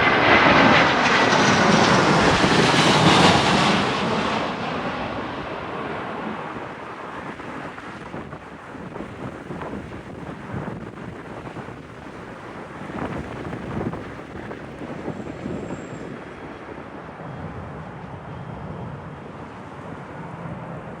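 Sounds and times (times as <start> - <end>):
jet engine rumble: 0.0 - 21.0
wind buffeting microphone: 0.0 - 21.0.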